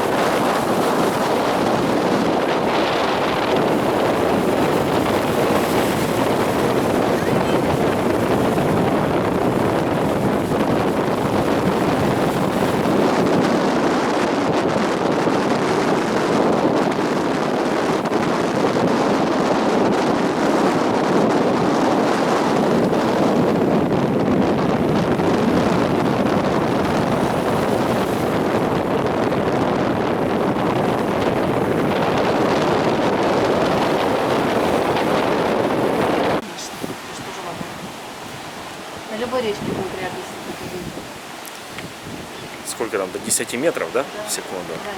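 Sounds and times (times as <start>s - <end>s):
strong wind on microphone: 0.0s - 44.9s
surf breaking: 0.0s - 44.9s.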